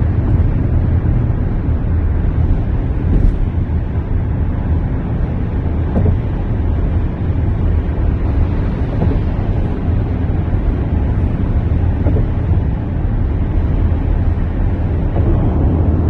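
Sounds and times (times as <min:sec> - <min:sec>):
road and wind noise in car: 0:00.0 - 0:16.0.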